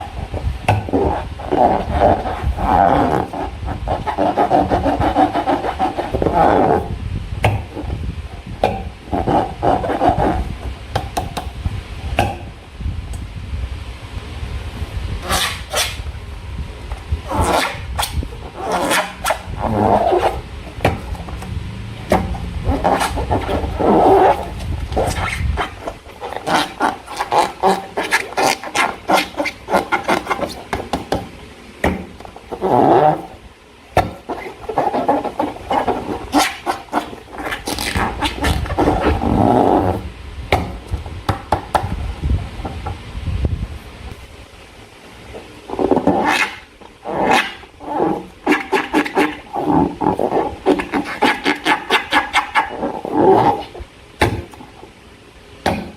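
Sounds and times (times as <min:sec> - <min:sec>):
rubber balloons squeaking: 0:00.0 - 0:11.3, 0:15.2 - 0:16.1, 0:17.2 - 0:31.2, 0:31.9 - 0:41.7, 0:45.4 - 0:54.8.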